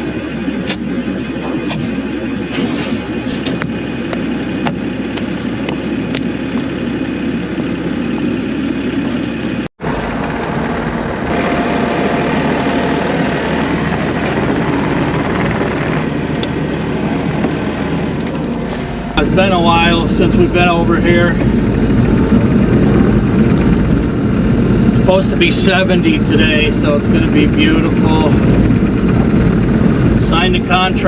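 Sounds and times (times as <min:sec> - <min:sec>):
road noise: 0:00.0 - 0:31.0
vehicle engine running: 0:00.0 - 0:31.0.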